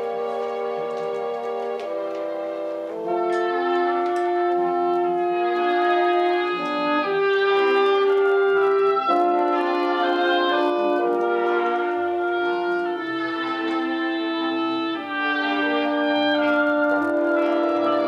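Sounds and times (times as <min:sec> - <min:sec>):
orchestra playing long held chords: 0:00.0 - 0:18.0.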